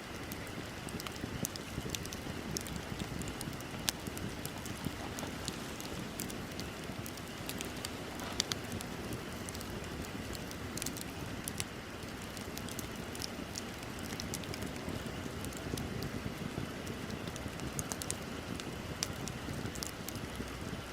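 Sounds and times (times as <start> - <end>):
low rush of burning: 0.0 - 20.9
wood bonfire crackling: 0.0 - 20.9
sharp pops from fire: 0.1 - 20.7.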